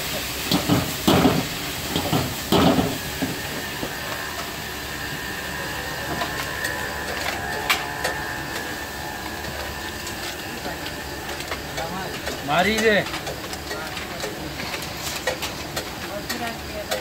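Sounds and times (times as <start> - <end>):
gas burner flame hissing: 0.0 - 17.0.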